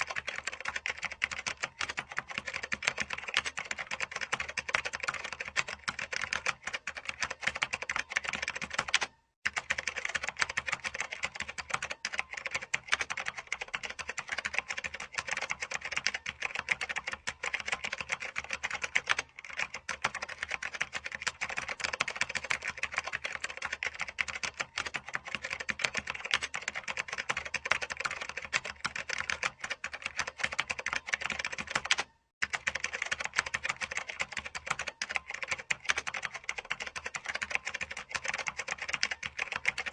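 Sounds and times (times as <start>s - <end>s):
typing on computer keyboard: 0.0s - 39.9s.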